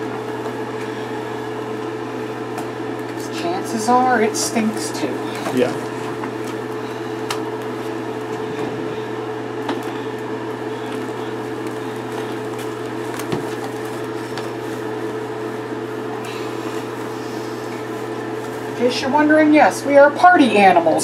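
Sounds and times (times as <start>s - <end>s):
machine-like hum: 0.0s - 21.0s.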